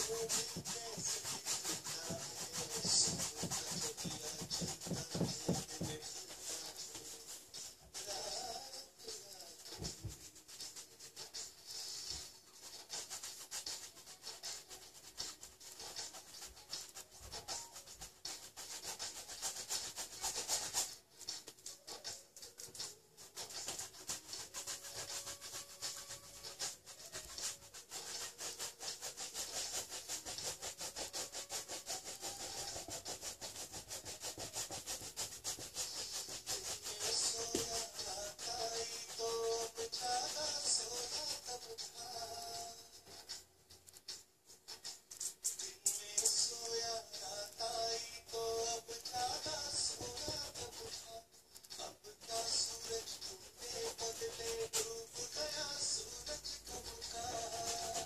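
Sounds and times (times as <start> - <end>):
brush scrubbing on canvas: 0.0 - 58.0.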